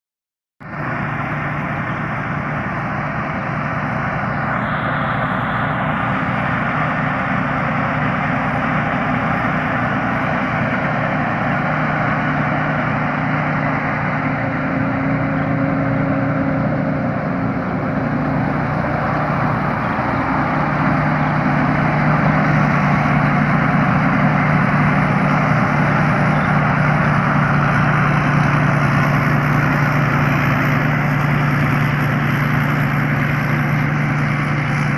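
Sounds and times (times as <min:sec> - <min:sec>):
combine harvester engine running: 0:00.6 - 0:34.9.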